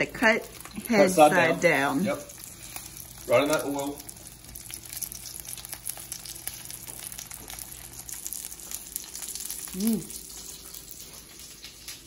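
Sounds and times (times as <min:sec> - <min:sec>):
garlic sizzling in oil: 0:00.0 - 0:12.0.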